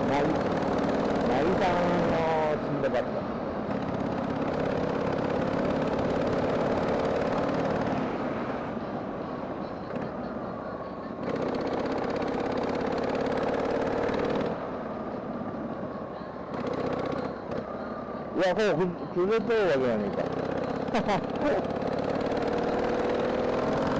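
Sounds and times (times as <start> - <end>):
motorcycle engine running: 0.0 - 10.4, 11.1 - 23.9.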